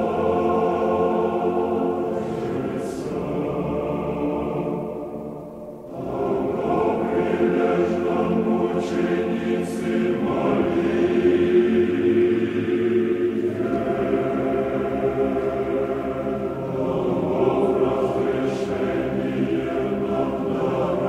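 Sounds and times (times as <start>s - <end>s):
choir chanting: 0.0s - 21.0s.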